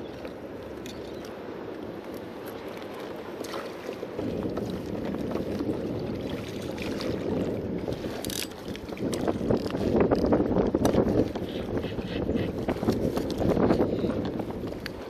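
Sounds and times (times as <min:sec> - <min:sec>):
water lapping against kayak hull: 0:00.0 - 0:15.0
wind on microphone: 0:02.6 - 0:15.0.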